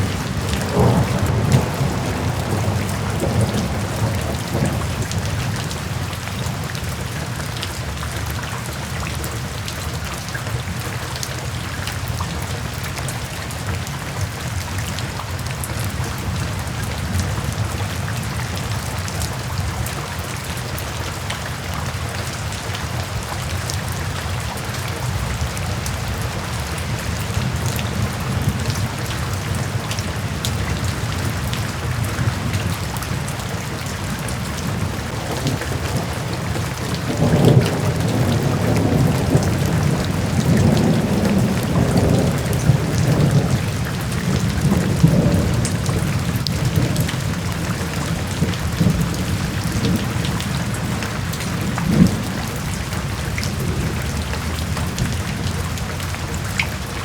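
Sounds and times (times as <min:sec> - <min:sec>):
raindrops ticking: 0:00.0 - 0:20.2, 0:20.8 - 0:57.0
low rain rumble: 0:00.0 - 0:57.0.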